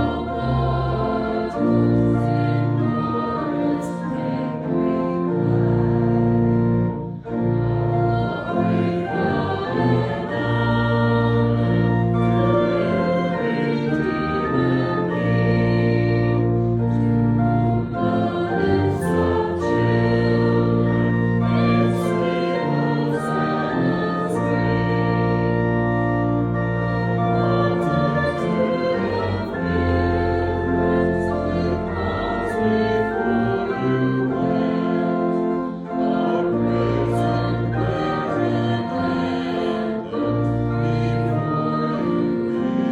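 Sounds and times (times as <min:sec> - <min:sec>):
church organ chords: 0:00.0 - 0:42.9
congregation singing a hymn: 0:00.0 - 0:42.9.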